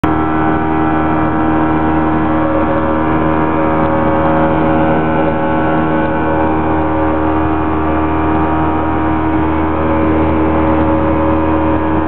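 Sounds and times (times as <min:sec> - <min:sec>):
boat motor droning: 0:00.0 - 0:12.0
water rushing along hull: 0:00.0 - 0:12.0.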